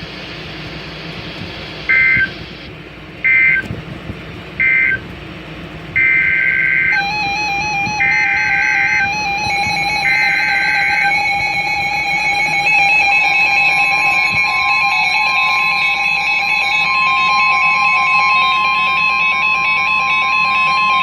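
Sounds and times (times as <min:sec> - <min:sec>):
emergency alert data burst: 0:00.0 - 0:03.7, 0:04.6 - 0:05.0, 0:06.0 - 0:21.0
steady warning alarm tone: 0:00.0 - 0:03.7, 0:04.6 - 0:05.1, 0:06.0 - 0:21.0.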